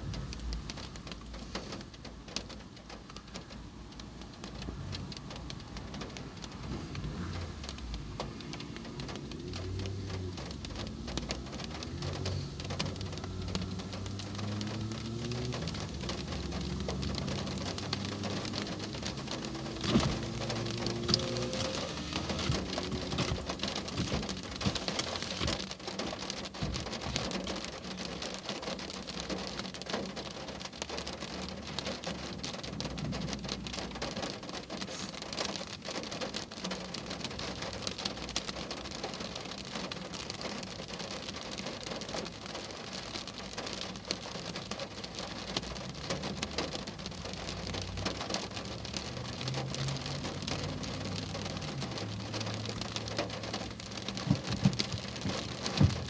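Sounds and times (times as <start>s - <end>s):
heavy rain patter: 0.0s - 56.0s.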